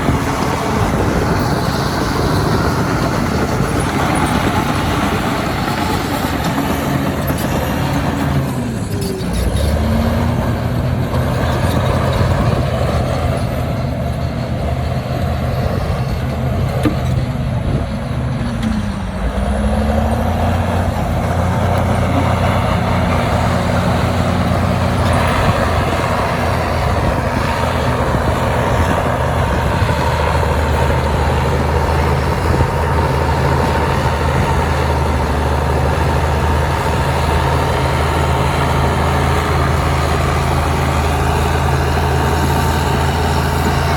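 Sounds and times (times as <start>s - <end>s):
heavy diesel engine under load: 0.0s - 43.9s.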